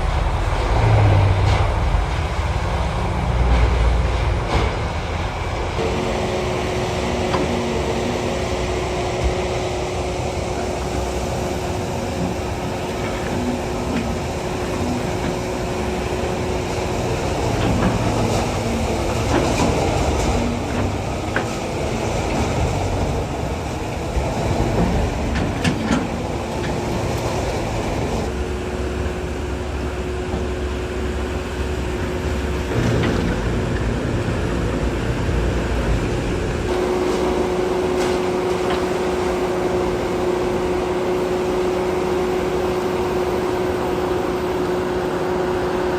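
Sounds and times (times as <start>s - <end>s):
excavator diesel engine: 0.0s - 45.9s
hydraulic whine: 0.0s - 45.9s.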